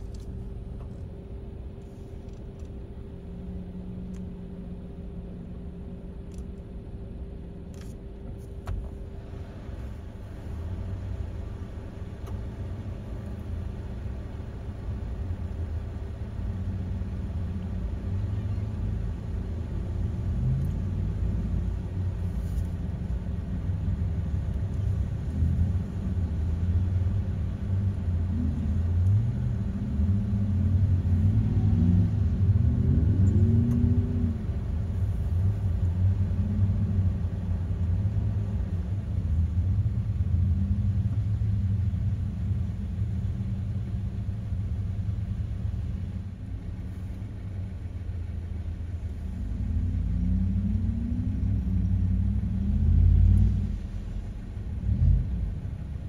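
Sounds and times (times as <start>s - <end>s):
truck engines rumbling and revving: 0.0s - 56.0s.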